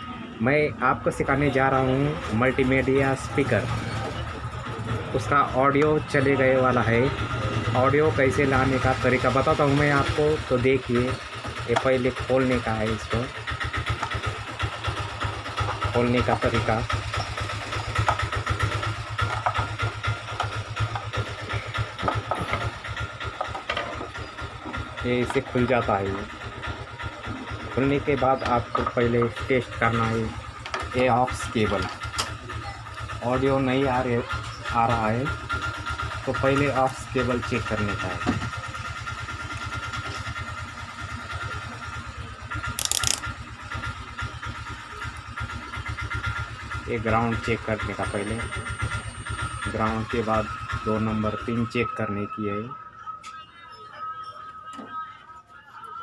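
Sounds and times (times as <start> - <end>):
small engine throbbing: 0.0 - 53.1.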